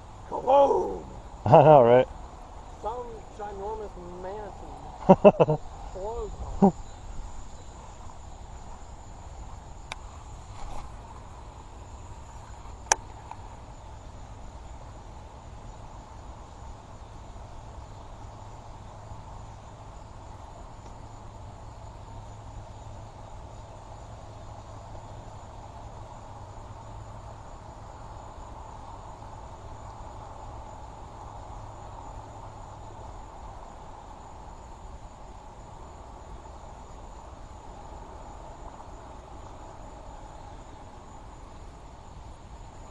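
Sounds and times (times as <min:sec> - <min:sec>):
insects chirring: 0:00.0 - 0:42.9.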